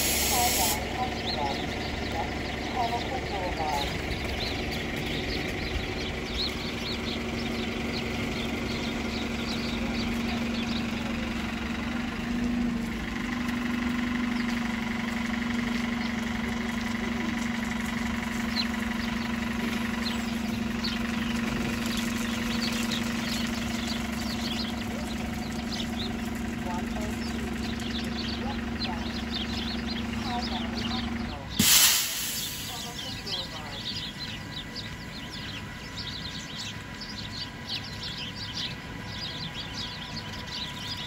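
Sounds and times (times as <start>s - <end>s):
bus engine idling: 0.0s - 41.0s
sparrows chirping: 0.0s - 41.0s.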